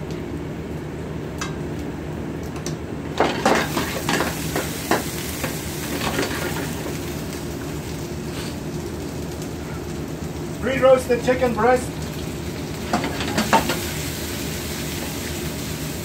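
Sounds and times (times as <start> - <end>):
steady low hum: 0.0 - 16.0
onions sizzling in a pan: 3.1 - 16.0.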